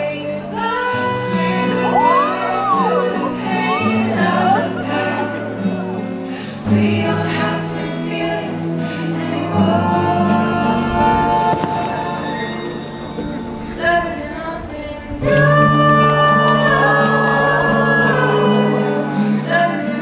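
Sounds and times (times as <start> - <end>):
song with singing: 0.0 - 20.0.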